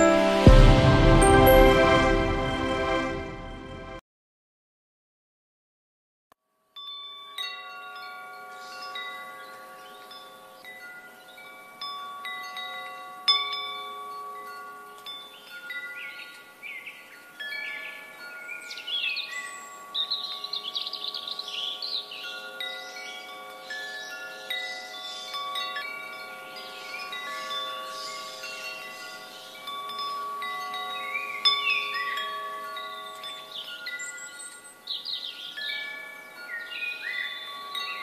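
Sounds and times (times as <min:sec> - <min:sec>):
wind chimes ringing: 0:00.0 - 0:03.3, 0:06.6 - 0:38.0.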